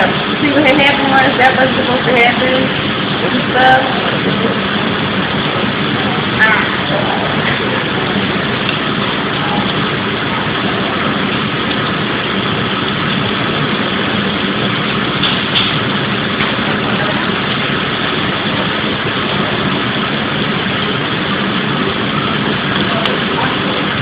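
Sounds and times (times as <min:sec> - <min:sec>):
food frying in a skillet: 0:00.0 - 0:24.0
low steady hum: 0:00.0 - 0:24.0.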